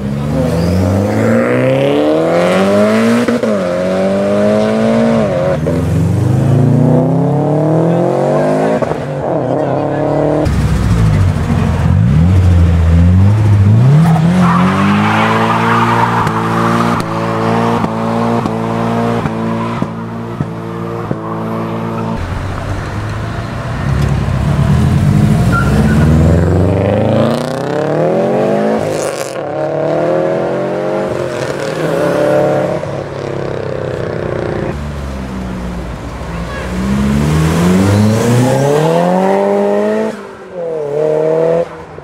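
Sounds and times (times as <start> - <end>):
car engine revving: 0.0 - 42.0
cars accelerating away: 0.0 - 42.0.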